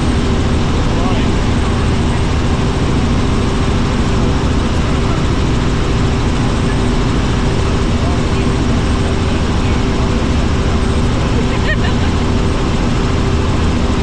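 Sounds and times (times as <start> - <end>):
helicopter engine and rotor drone: 0.0 - 14.0.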